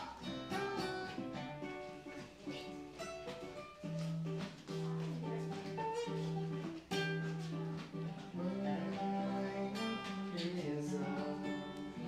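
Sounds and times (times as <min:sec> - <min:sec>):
acoustic guitars playing: 0:00.0 - 0:12.0.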